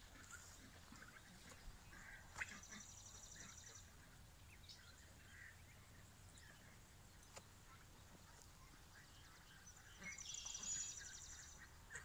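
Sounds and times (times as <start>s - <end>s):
distant ducks and geese quacking: 0.0s - 12.0s.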